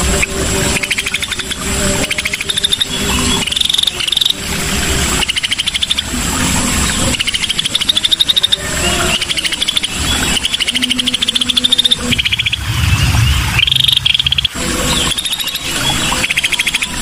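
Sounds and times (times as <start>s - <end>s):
bird song with rapid trills: 0.0s - 17.0s.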